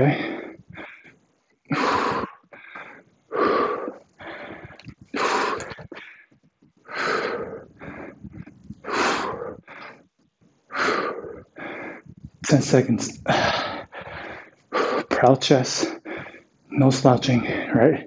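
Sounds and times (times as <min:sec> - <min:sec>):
man breathing heavily: 0:00.0 - 0:15.2, 0:15.8 - 0:16.6.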